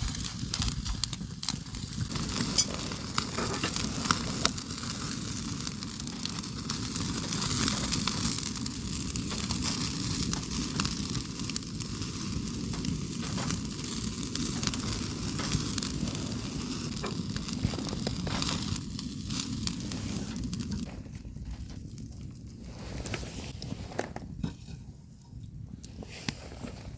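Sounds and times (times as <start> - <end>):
food sizzling over campfire: 0.0 - 23.6
fire crackles and pops: 0.0 - 26.9.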